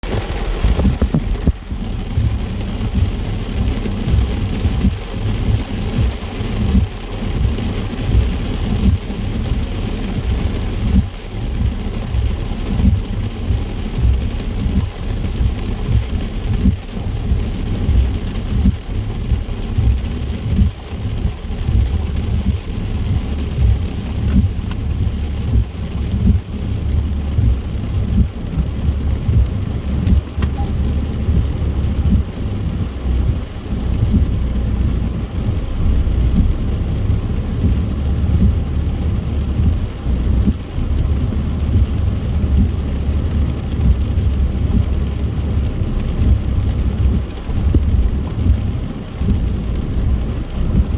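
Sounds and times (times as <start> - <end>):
hiss of rain and spray: 0.0 - 50.9
road and tyre rumble: 0.0 - 50.9.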